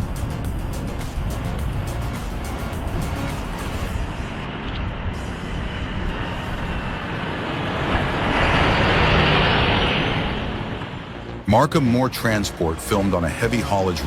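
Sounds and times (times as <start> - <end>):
heavy vehicle passing: 0.0 - 11.4.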